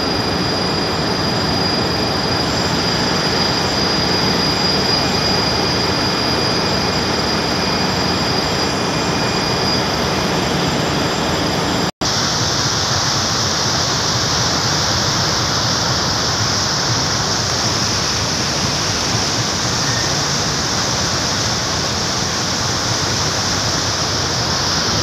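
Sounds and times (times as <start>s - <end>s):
boat wake water rushing: 0.0s - 25.0s.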